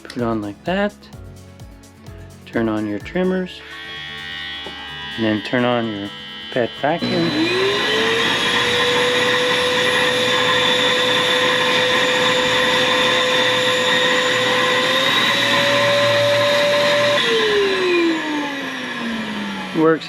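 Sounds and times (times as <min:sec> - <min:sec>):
vacuum motor whining: 0:03.6 - 0:20.0.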